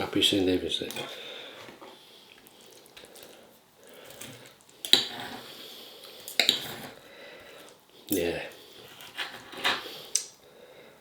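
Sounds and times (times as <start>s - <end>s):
quiet eating sounds: 0.0s - 11.0s.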